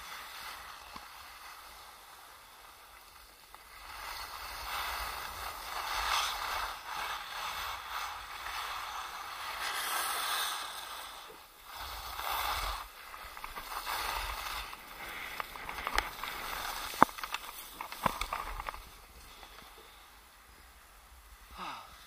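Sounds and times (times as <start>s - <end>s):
skis scraping over snow: 0.0s - 21.8s.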